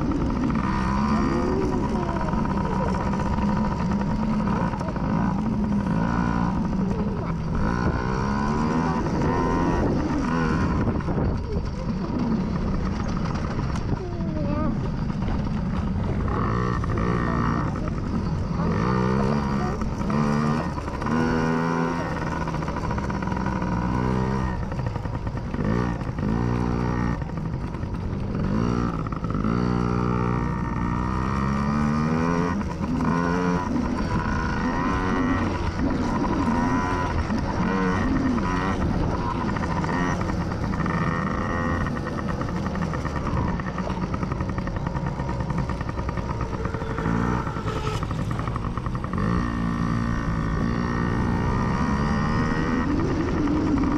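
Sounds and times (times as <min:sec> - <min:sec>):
dirt bike engines revving: 0:00.0 - 0:53.9
low engine drone: 0:00.0 - 0:53.9.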